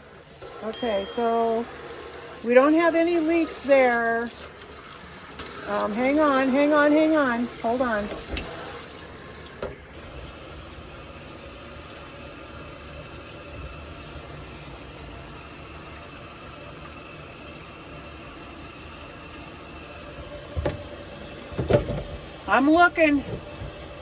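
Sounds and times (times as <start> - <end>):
faucet water running into sink: 0.0 - 24.0.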